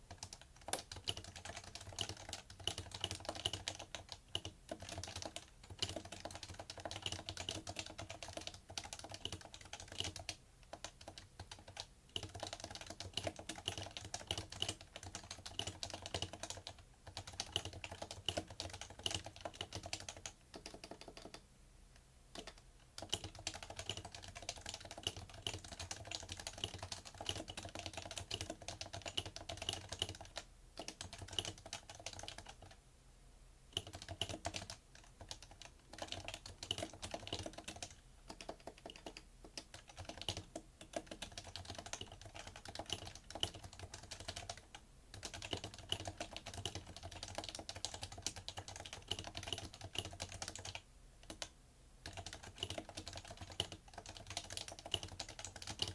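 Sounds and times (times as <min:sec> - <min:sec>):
fast keyboard typing: 0:00.0 - 0:21.4, 0:22.3 - 0:32.8, 0:33.7 - 0:55.9.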